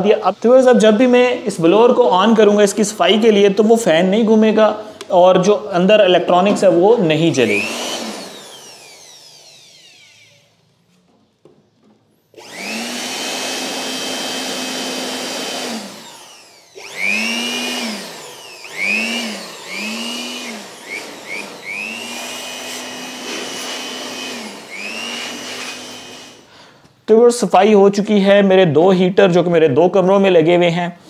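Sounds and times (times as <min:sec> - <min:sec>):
electric air blower whining: 0:00.0 - 0:11.5, 0:12.3 - 0:26.8.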